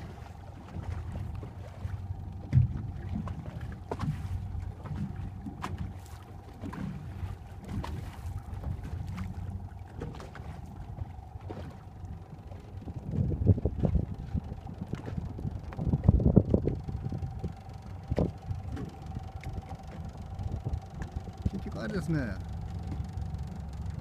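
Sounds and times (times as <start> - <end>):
faint steady hum: 0.0 - 24.0
wind and water against hull: 0.0 - 24.0.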